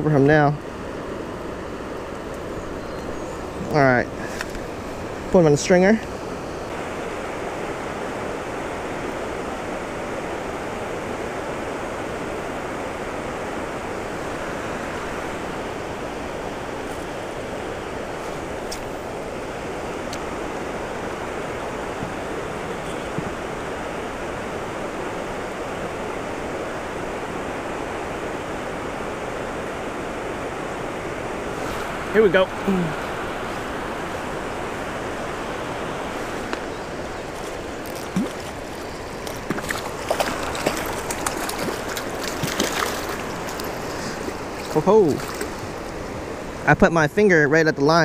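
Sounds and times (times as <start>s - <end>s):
creek water rushing over riffle: 0.0s - 48.0s.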